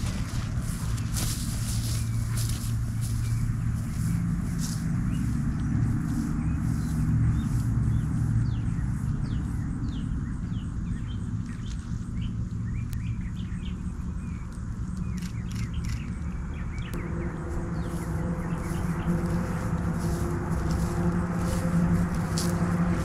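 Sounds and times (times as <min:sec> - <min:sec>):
low outdoor rumble: 0:00.0 - 0:23.0
low steady hum: 0:00.0 - 0:23.0
small birds chirping: 0:00.0 - 0:23.0.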